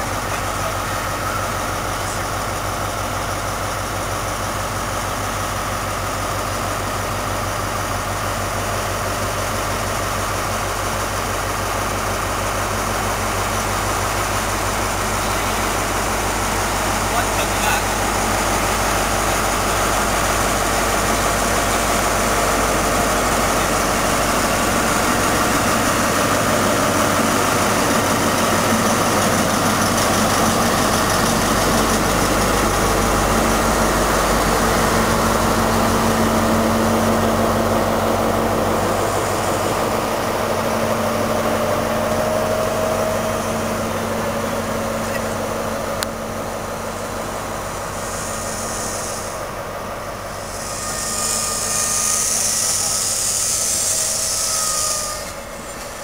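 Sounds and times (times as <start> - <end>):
diesel train engine drone: 0.0 - 56.0.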